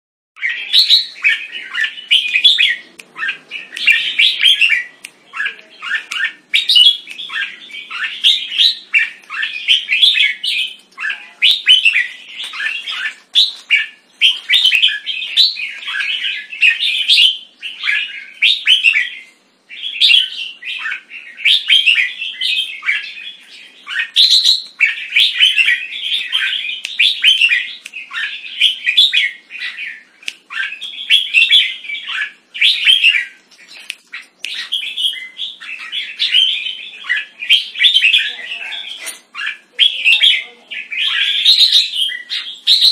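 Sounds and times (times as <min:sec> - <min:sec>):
bulbul singing: 0:00.4 - 0:42.9.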